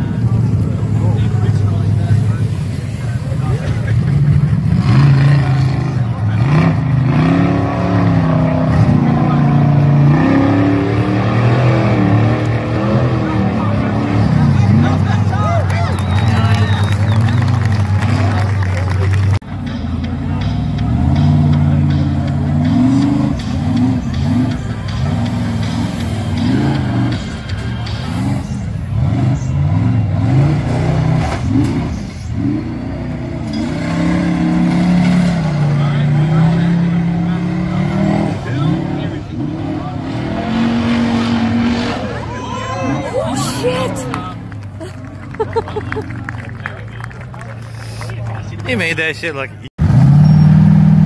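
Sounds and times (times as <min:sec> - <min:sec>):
buggy engine revving hard: 0:03.7 - 0:19.4, 0:20.4 - 0:45.0, 0:49.7 - 0:51.0.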